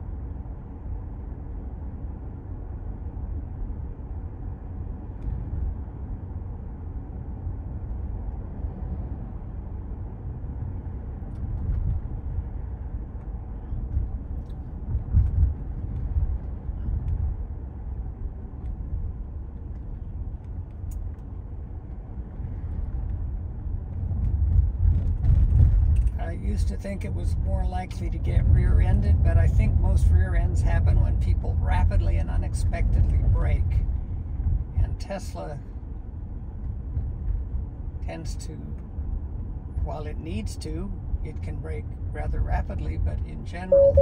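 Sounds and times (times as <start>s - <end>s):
road and tyre noise: 0.0s - 44.0s.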